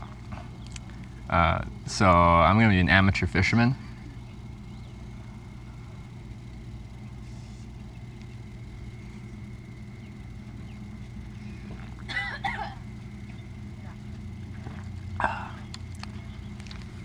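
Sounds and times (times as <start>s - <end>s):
faint high whine: 0.0s - 17.0s
low mechanical hum: 0.0s - 17.0s.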